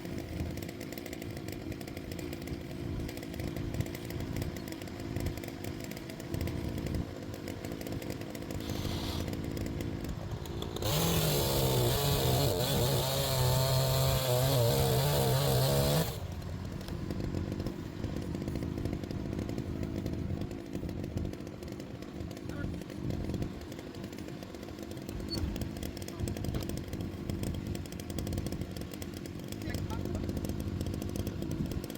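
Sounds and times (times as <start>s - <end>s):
chainsaw revving and cutting log: 0.0s - 31.9s.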